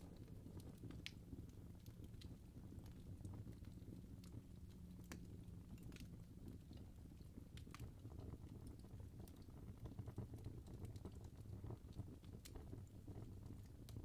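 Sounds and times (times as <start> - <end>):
fire rumbling: 0.0 - 14.0
wood crackling and popping: 0.0 - 14.0.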